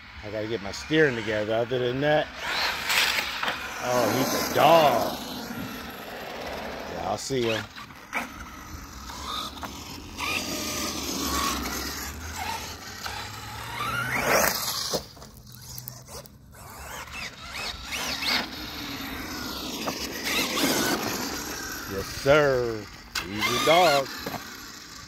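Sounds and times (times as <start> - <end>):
electric motor whining: 0.4 - 25.0.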